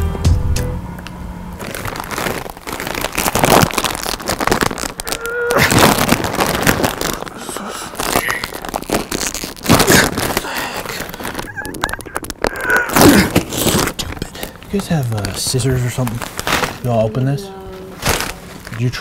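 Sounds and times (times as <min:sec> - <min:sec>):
plastic bag crinkling: 0:01.6 - 0:19.0.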